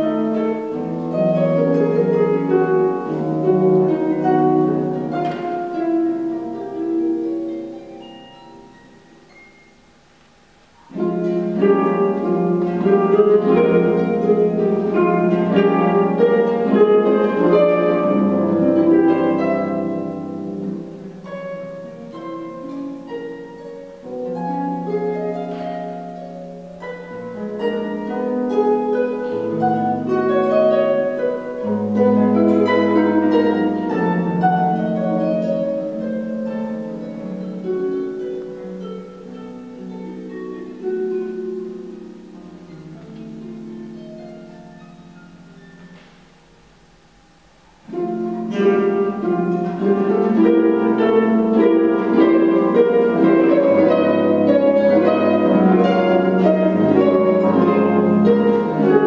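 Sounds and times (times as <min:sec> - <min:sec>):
harp playing: 0:00.0 - 0:59.0.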